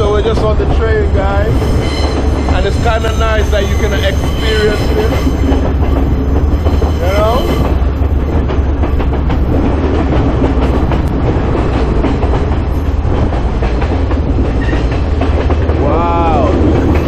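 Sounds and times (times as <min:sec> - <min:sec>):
train wheels rattling on rails: 0:00.0 - 0:17.0.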